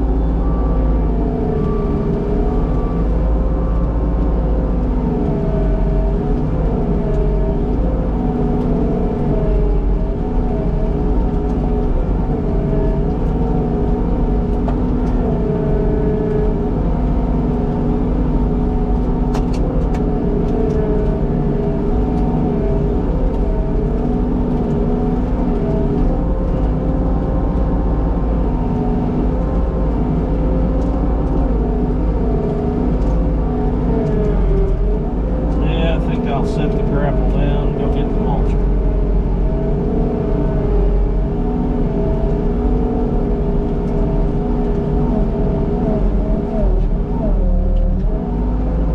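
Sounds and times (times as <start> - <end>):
skid steer engine running: 0.0 - 48.9.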